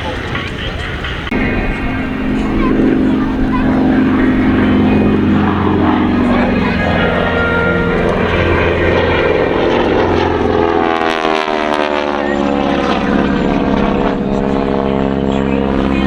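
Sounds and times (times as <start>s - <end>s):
propeller airplane flying past: 0.0s - 16.0s.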